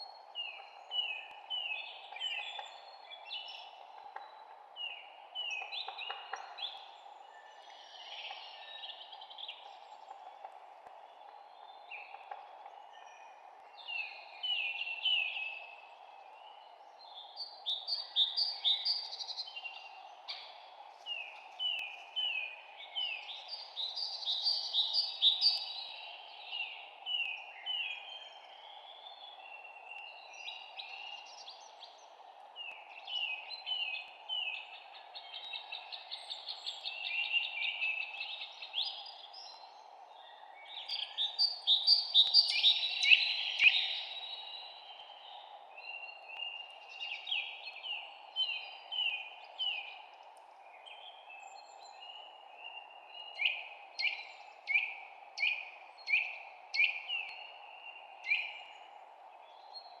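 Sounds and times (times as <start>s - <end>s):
low background hiss: 0.0s - 60.0s
songbirds chirping and singing: 0.0s - 60.0s.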